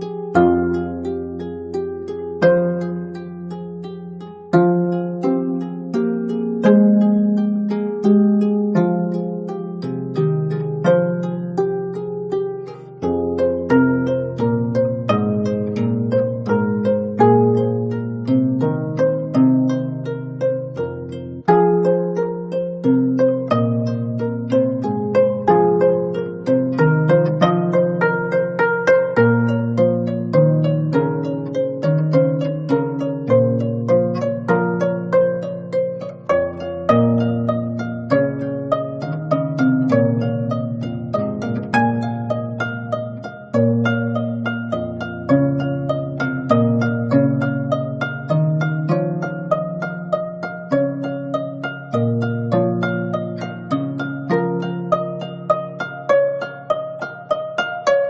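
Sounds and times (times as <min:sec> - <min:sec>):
plucked zither melody: 0:00.0 - 0:58.0.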